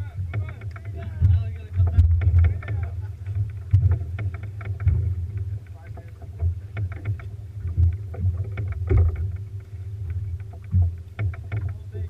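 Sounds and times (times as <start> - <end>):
boat low rumble: 0.0 - 12.0
faint steady hum: 0.0 - 12.0
water knocks and slaps: 0.0 - 12.0.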